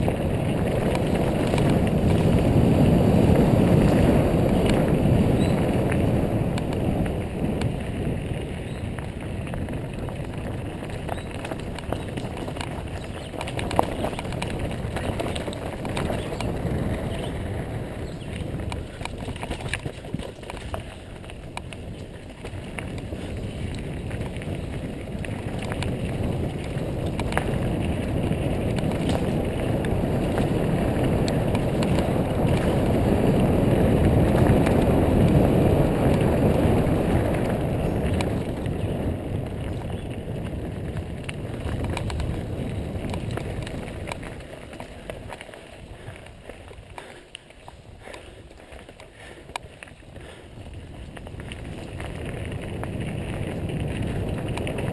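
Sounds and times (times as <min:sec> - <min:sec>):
bike clicks and rattles: 0:00.0 - 0:54.9
tyres rolling over dirt: 0:00.0 - 0:54.9
wind rushing over microphone: 0:00.0 - 0:54.9.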